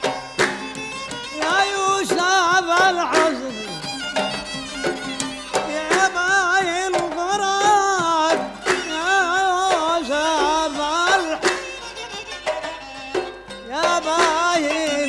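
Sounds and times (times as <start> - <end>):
plucked oud: 0.0 - 15.0
qanun: 0.0 - 15.0
man singing with ornamented pitch: 1.3 - 12.5, 13.6 - 15.0.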